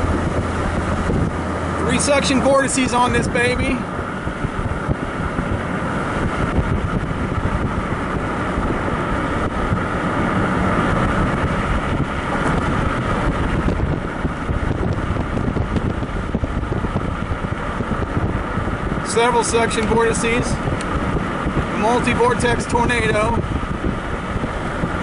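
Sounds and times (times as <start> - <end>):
vehicle rumbling along road: 0.0 - 25.0
wind buffeting microphone: 0.0 - 25.0.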